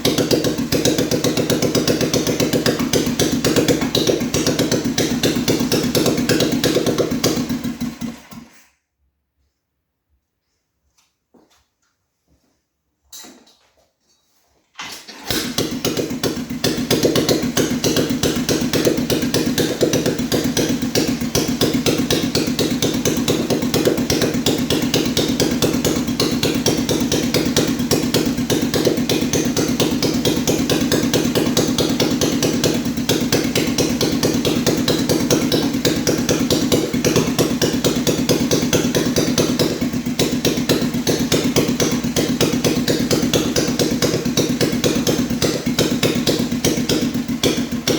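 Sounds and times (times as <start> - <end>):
motorcycle engine starting and running: 0.0 - 8.8, 14.8 - 47.9.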